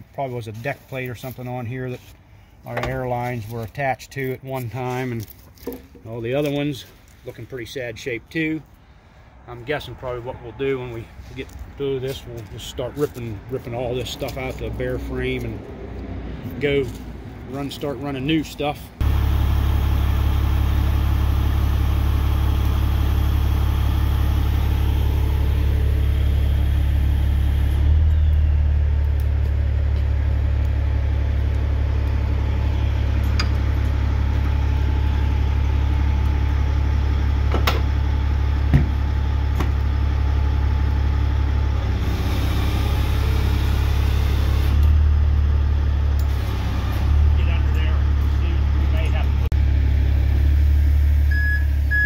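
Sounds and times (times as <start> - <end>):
diesel engine running: 5.6 - 52.0.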